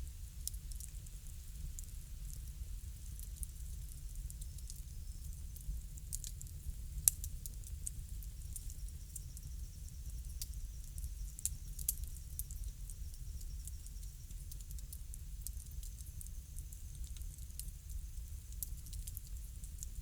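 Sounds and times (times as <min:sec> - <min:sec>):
wood fire crackling: 0:00.2 - 0:20.0.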